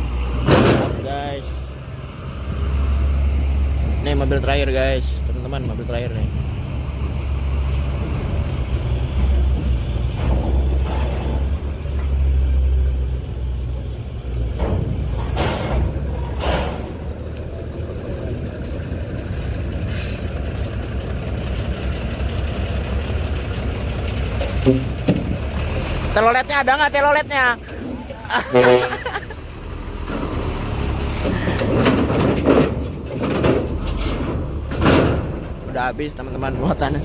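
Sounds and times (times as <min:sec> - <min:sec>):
diesel truck engine driving by: 0:00.0 - 0:37.0.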